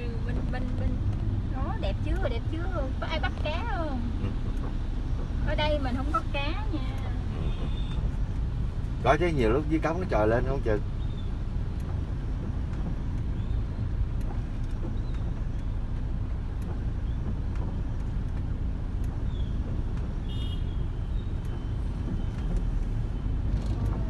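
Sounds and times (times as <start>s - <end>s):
car driving low rumble: 0.0s - 24.0s.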